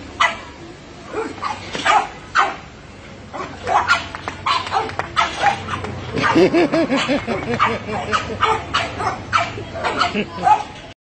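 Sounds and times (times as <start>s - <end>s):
dogs barking: 1.2s - 2.6s, 3.4s - 10.8s.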